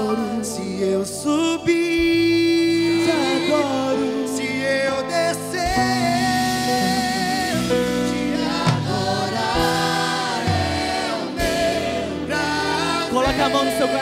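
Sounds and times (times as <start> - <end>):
choir singing gospel song: 0.0 - 14.0
electronic keyboard accompaniment: 0.0 - 14.0
strong lead voice singing: 0.0 - 14.0.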